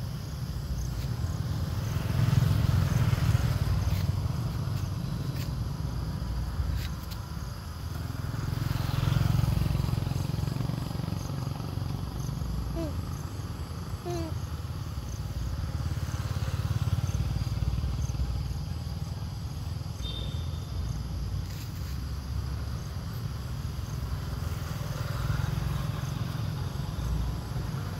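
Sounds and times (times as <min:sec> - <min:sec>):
low outdoor background rumble: 0:00.0 - 0:27.9.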